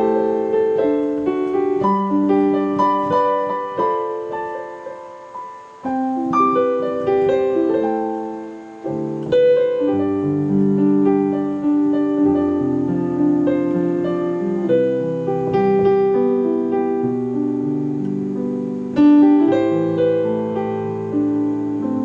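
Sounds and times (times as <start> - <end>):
piano chords and notes: 0.0 - 22.0.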